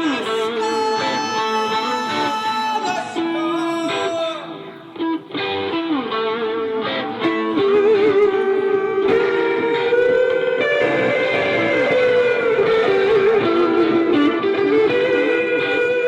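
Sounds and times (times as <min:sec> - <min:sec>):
guitar playing: 0:00.0 - 0:16.0.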